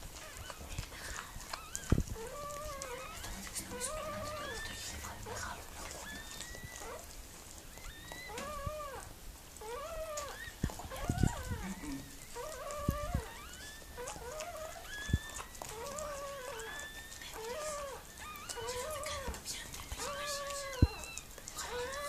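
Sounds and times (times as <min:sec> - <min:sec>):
puppy squealing: 0:00.0 - 0:22.0.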